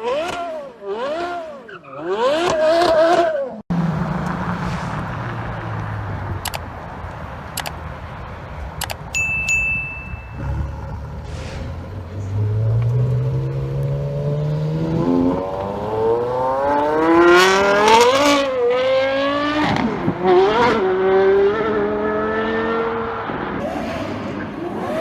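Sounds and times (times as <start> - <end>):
car engine accelerating: 3.7 - 9.2, 9.8 - 25.0.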